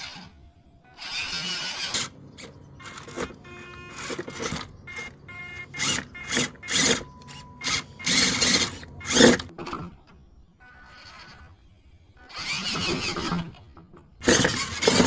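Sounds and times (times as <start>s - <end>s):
rc car scraping over rough ground: 0.0s - 10.0s, 10.6s - 15.0s.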